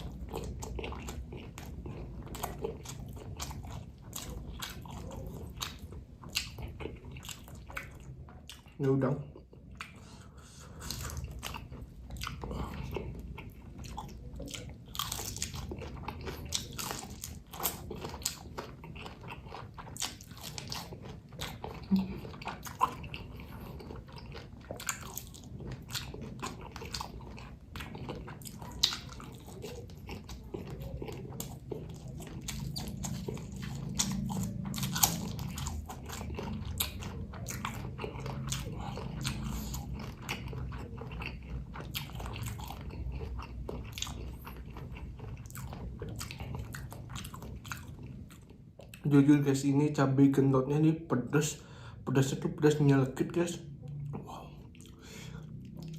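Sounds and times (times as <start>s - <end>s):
crunching and chewing food: 0.0s - 55.9s
low steady room hum: 0.0s - 55.9s.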